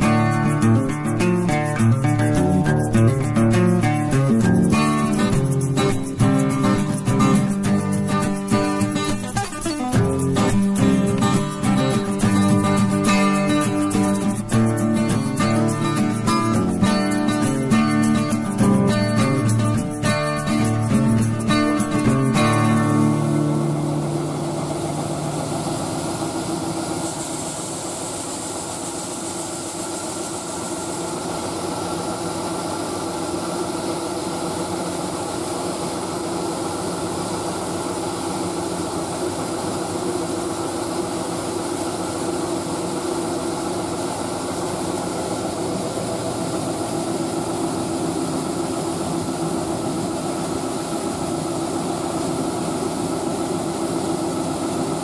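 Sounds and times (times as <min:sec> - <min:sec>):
diesel farm machinery running: 0:00.0 - 0:55.0.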